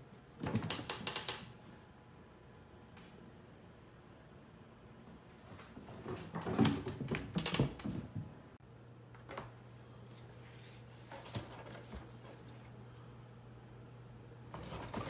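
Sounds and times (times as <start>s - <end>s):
faint steady hum: 0.0s - 6.2s, 7.0s - 15.0s.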